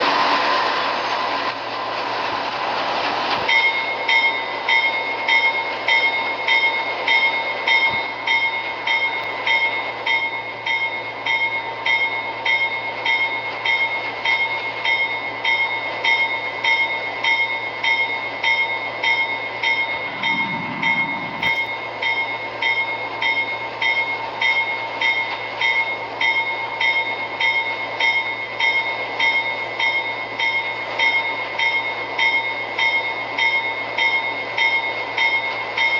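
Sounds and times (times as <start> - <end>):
locomotive bell ringing: 3.4 - 35.9.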